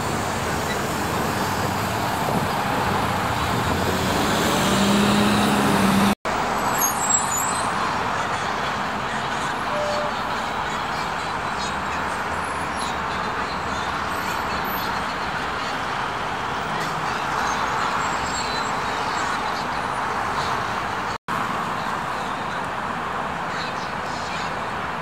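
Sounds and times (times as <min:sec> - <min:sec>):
road traffic hiss and rumble: 0:00.0 - 0:25.0.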